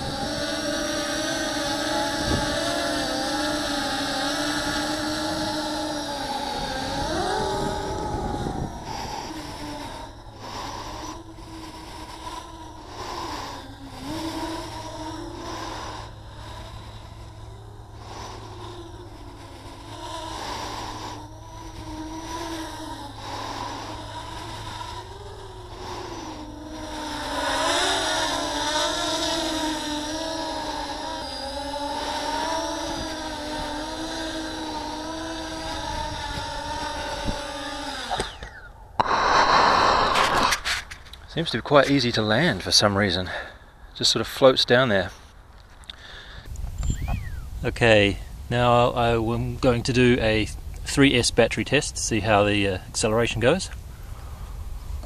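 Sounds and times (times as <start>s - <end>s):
quadcopter propellers whining: 0.0s - 55.0s.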